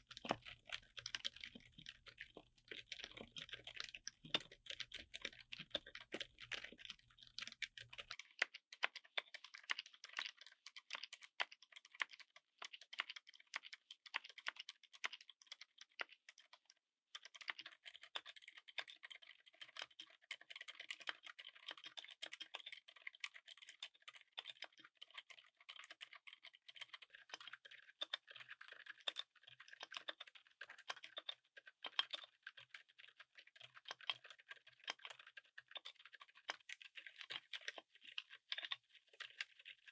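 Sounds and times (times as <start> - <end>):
fast typing on quiet keyboard: 0.0 - 39.9.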